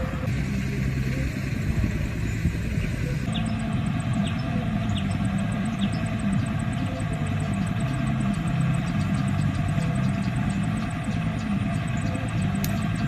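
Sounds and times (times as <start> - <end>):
motor engine rumbling: 0.0 - 13.0.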